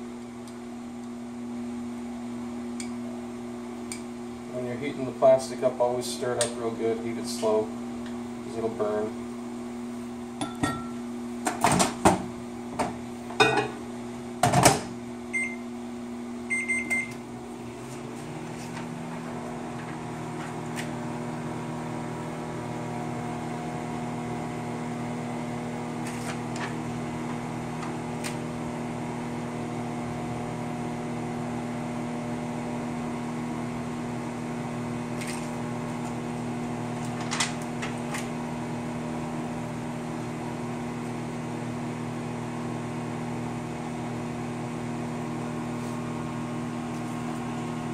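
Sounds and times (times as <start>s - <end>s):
microwave oven humming: 0.0s - 47.9s.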